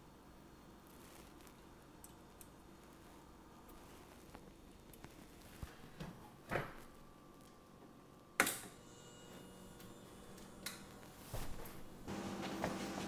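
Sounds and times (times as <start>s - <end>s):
faint compressor hum: 0.0s - 13.0s.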